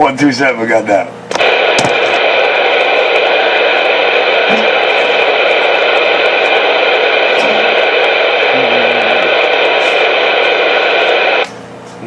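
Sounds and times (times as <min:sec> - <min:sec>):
radio static hiss: 0:00.0 - 0:11.5.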